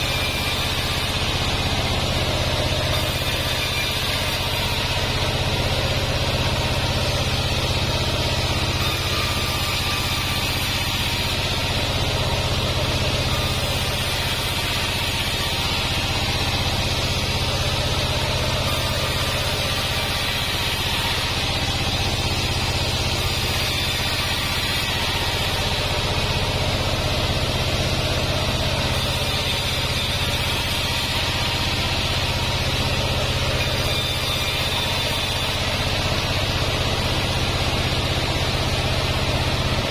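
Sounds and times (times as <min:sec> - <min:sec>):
saw blade ripping boards: 0:00.0 - 0:38.0
band saw humming: 0:00.0 - 0:39.9.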